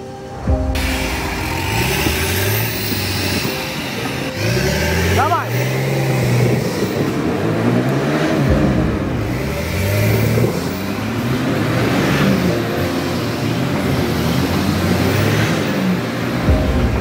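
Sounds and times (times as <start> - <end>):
vehicle engine revving: 0.7 - 17.0.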